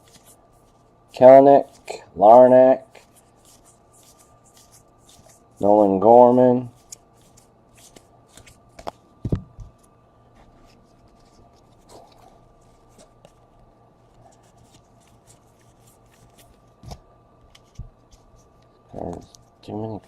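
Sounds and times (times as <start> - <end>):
cards being flipped by hand: 0.0 - 0.8, 2.9 - 5.7, 6.3 - 19.6.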